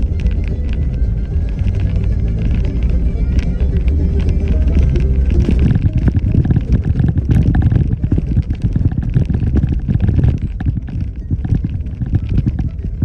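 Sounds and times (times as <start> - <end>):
off-road vehicle rumbling: 0.0 - 13.0.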